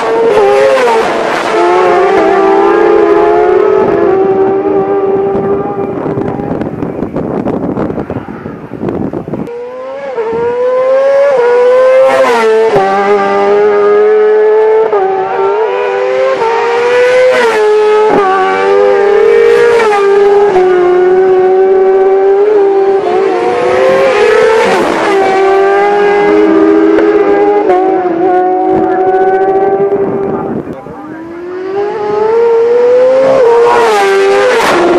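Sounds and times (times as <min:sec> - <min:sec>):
racing motorcycle engines revving: 0:00.0 - 0:34.9.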